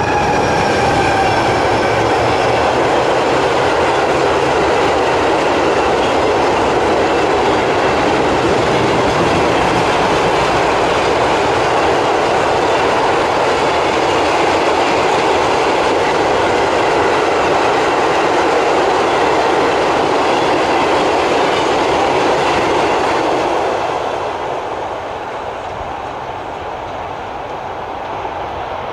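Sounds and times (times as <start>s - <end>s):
train wheels rolling on track: 0.0s - 28.9s.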